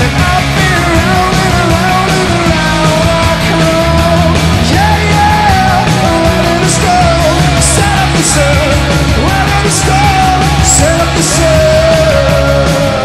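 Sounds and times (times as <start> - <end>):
bass guitar: 0.0 - 13.0
electric guitar: 0.0 - 13.0
rock band playing live: 0.0 - 13.0.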